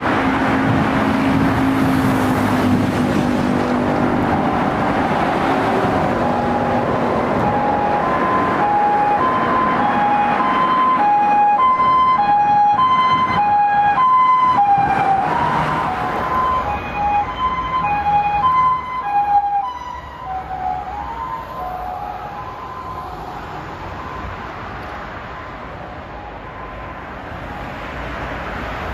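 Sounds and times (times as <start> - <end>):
traffic noise: 0.0 - 28.9
ambulance two-tone siren: 4.2 - 27.8.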